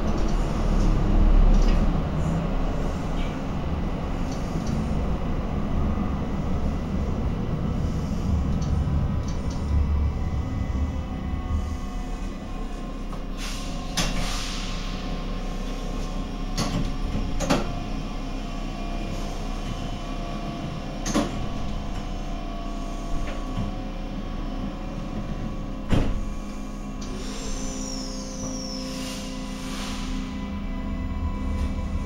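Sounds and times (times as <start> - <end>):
train equipment humming: 0.0 - 32.0.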